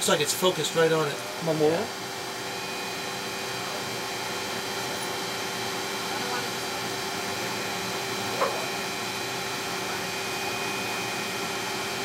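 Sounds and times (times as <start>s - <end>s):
ventilation fans whirring: 0.0s - 12.0s.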